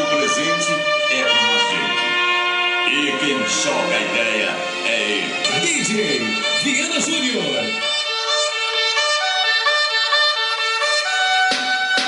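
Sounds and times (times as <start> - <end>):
reedy clarinet-like melody: 0.0 - 12.0.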